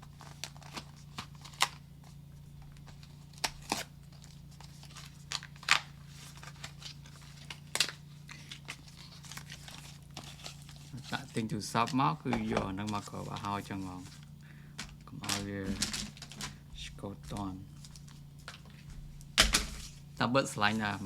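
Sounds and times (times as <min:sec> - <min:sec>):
faint low hum: 0:00.0 - 0:21.0
packaging rustling: 0:00.0 - 0:21.0.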